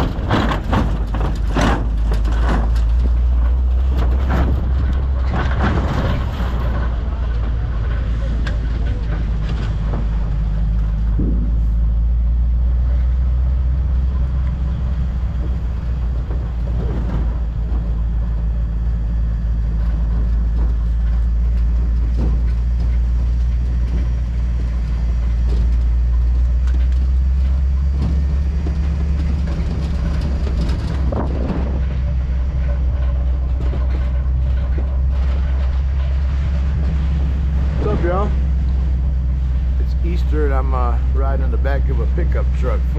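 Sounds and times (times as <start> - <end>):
pickup truck rumble: 0.0 - 42.9.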